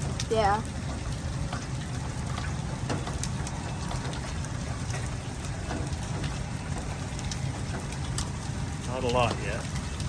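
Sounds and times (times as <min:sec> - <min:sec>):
hailstones ticking: 0:00.0 - 0:10.0
steady rain: 0:00.0 - 0:10.0.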